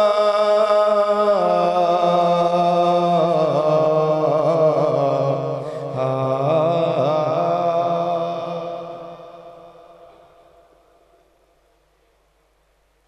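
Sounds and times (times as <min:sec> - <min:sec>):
man singing unaccompanied: 0:00.0 - 0:10.7.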